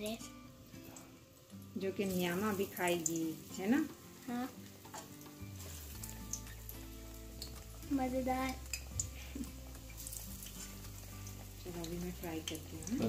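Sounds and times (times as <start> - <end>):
fritters sizzling in hot oil: 0.0 - 13.0.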